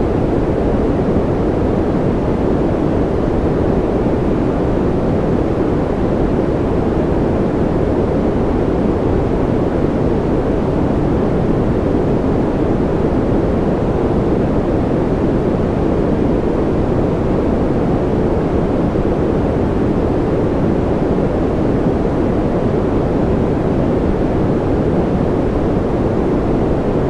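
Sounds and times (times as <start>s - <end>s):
steady deep white noise: 0.0s - 27.0s.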